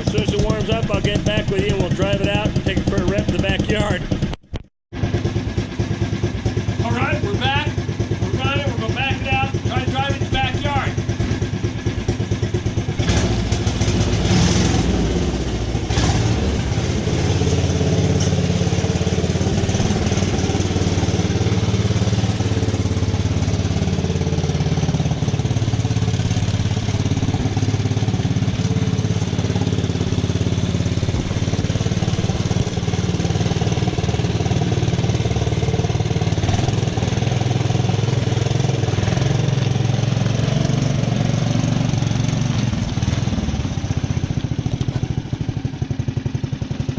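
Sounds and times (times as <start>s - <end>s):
small engine running: 0.0s - 4.4s, 5.0s - 46.9s.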